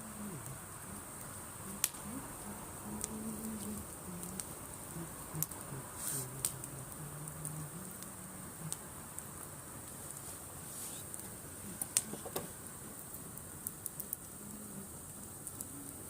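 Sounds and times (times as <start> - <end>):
campfire crackling: 0.0 - 16.0
fire popping and snapping: 0.0 - 16.0.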